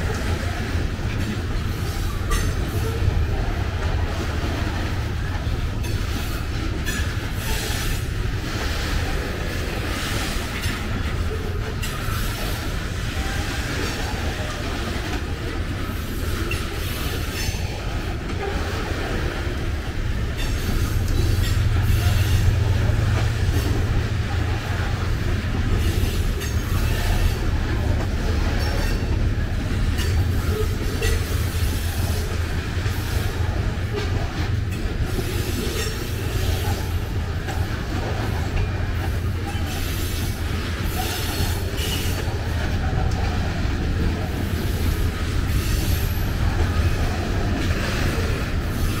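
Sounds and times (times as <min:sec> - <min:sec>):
freight train rumble: 0:00.0 - 0:49.0
wheels clacking over rail joints: 0:00.0 - 0:49.0.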